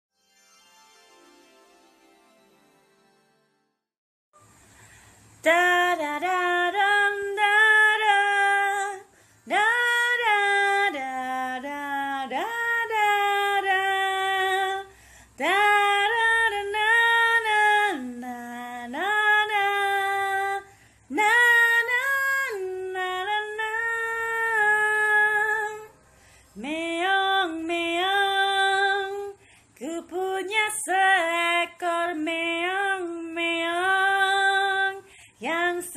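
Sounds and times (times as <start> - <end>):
woman singing unaccompanied: 5.4 - 35.9.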